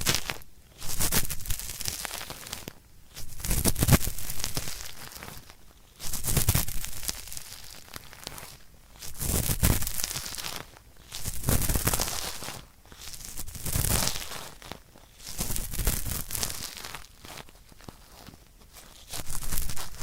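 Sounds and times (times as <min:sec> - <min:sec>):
cotton swab rubbing microphone: 0:00.0 - 0:20.0.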